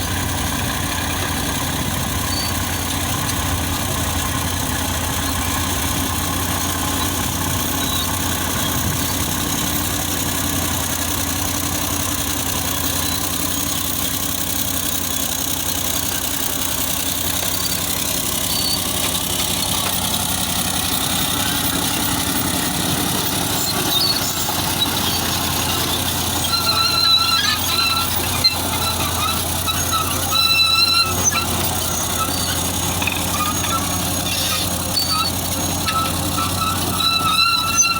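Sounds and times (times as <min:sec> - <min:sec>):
bulldozer diesel engine running: 0:00.0 - 0:37.9
short high-pitched squeals: 0:02.2 - 0:03.0, 0:05.1 - 0:11.8, 0:12.7 - 0:37.9.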